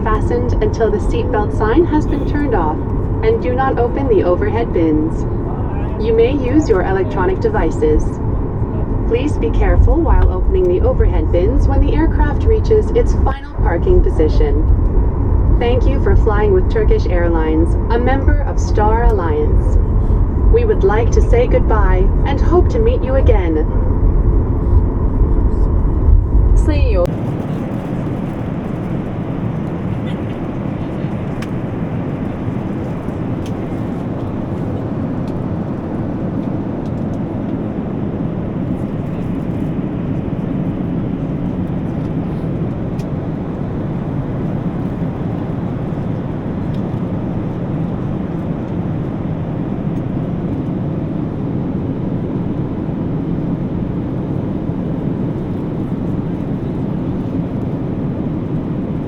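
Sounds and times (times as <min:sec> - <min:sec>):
cabin air system: 0:00.0 - 0:48.8
aircraft cabin rumble: 0:00.0 - 0:59.0.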